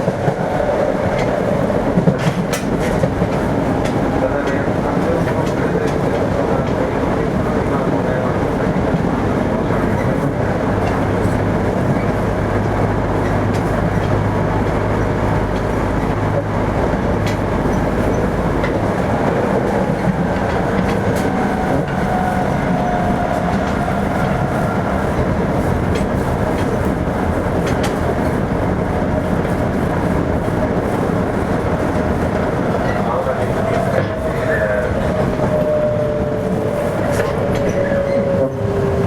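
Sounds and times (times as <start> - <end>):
low hum under train car: 0.0 - 39.0
train rumbling: 0.0 - 39.0
wheels clicking over rail joints: 0.0 - 39.0.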